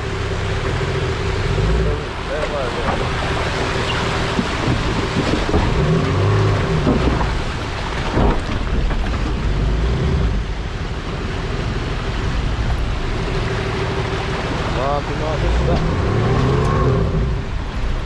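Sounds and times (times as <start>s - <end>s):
engine rumbling: 0.0s - 18.0s
rushing river water: 0.0s - 18.0s.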